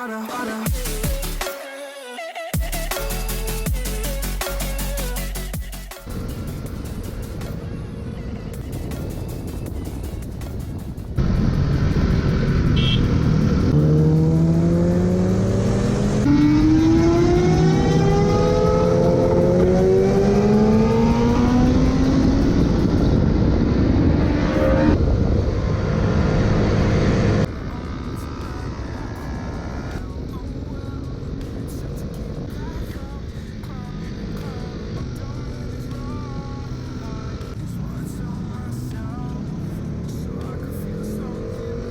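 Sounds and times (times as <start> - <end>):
road noise: 6.0 - 41.9
motorcycle engines accelerating: 6.1 - 41.9.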